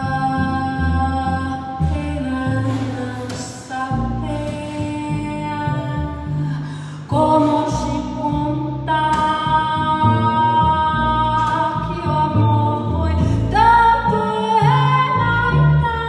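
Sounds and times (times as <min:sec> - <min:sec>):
double bass: 0:00.0 - 0:16.0
woman singing: 0:00.0 - 0:16.0.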